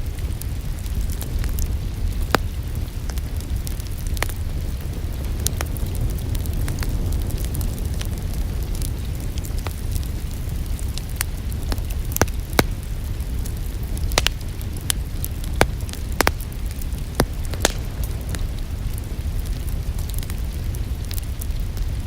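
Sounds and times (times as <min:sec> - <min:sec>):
steady low rumble: 0:00.0 - 0:22.0
wood fire crackling and popping: 0:00.0 - 0:22.0.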